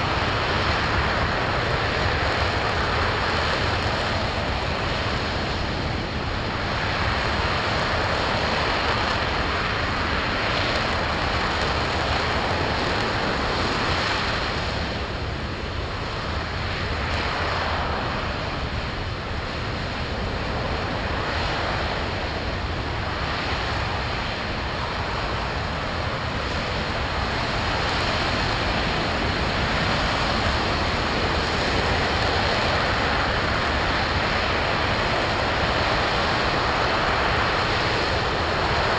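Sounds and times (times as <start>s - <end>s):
rocket engine roaring: 0.0s - 38.9s.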